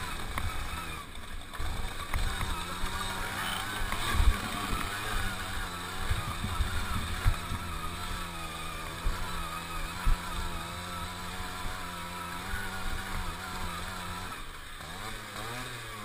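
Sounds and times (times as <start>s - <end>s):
moped two-stroke engine running: 0.0s - 16.0s.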